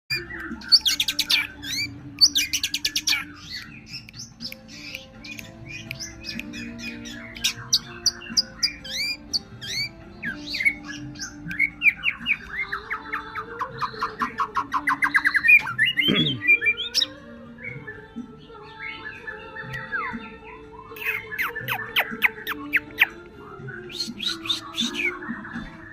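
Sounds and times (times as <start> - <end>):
songbird singing whistles and chirps: 0.1 - 25.9.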